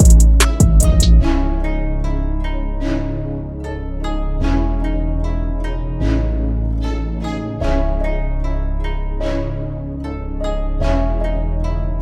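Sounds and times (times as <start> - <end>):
harp-like plucked strings: 0.0 - 12.0
held low bass: 0.0 - 12.0.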